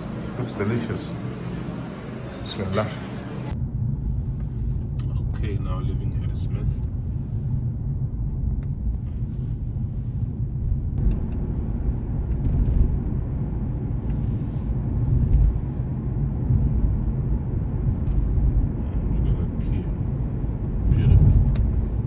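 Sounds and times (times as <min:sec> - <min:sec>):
engine and tyres rumbling: 0:00.0 - 0:22.0.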